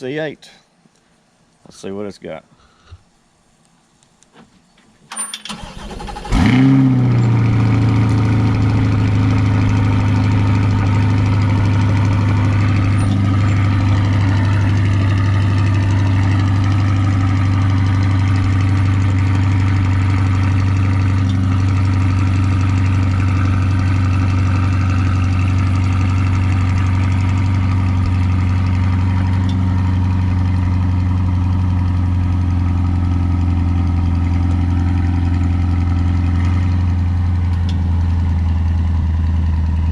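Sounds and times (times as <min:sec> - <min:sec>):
car engine starting and idling: 0:05.1 - 0:39.9.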